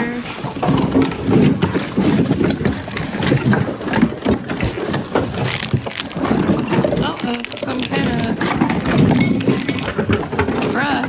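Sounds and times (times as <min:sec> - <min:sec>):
hard objects clattering together: 0:00.0 - 0:11.0.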